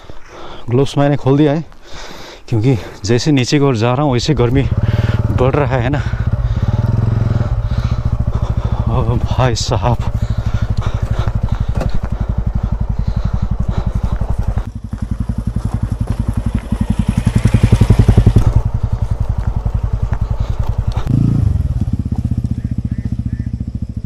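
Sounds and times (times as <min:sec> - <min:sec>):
single-cylinder motorcycle engine running: 0:04.2 - 0:24.0.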